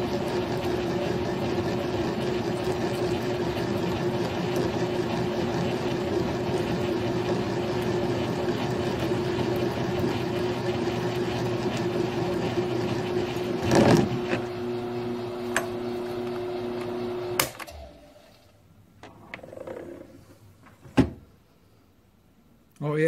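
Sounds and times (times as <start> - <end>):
motor hum: 0.0 - 18.5.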